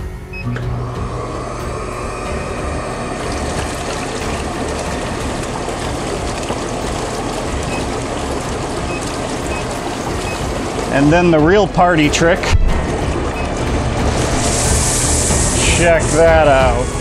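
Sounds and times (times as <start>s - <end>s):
low motor hum: 0.0s - 17.0s
water churning and bubbling: 0.8s - 17.0s.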